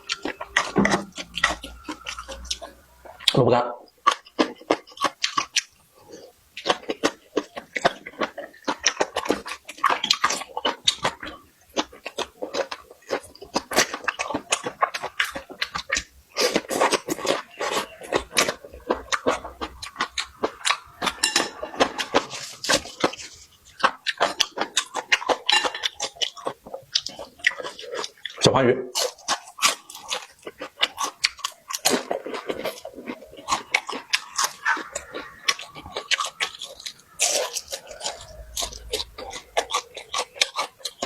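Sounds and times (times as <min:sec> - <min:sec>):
chewing and lip-smacking: 0:00.0 - 0:41.0.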